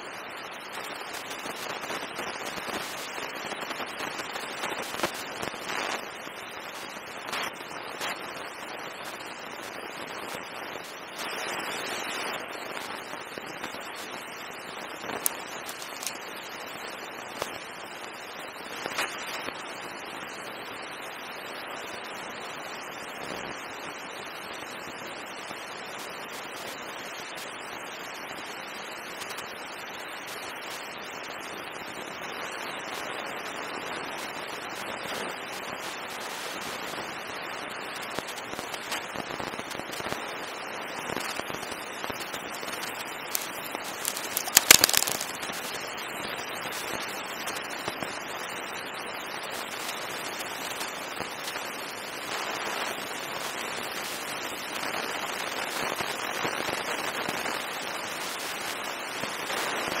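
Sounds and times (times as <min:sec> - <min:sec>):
faint crackles: 0:00.0 - 0:20.8, 0:32.2 - 1:00.0
steady hiss: 0:00.0 - 1:00.0.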